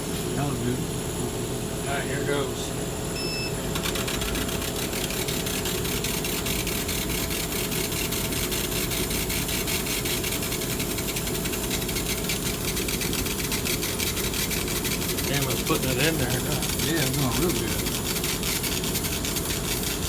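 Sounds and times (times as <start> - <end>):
power tool pulsing on wood: 3.8 - 20.0.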